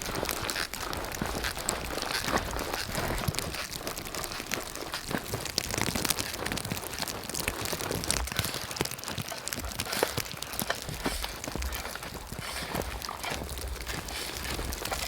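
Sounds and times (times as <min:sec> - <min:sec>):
footsteps crunching through snow: 0:00.0 - 0:15.0.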